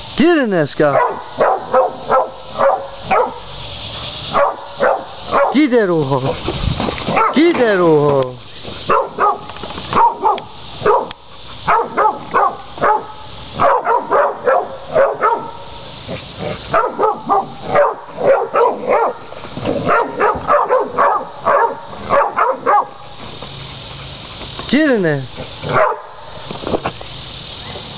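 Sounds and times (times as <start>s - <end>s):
dogs barking rapidly: 0.9s - 5.8s, 6.4s - 7.7s, 8.8s - 24.6s, 25.3s - 26.5s.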